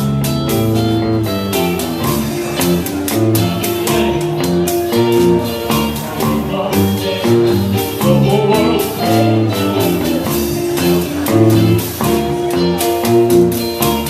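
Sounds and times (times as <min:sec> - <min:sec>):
guitar-led band playing: 0:00.0 - 0:14.0.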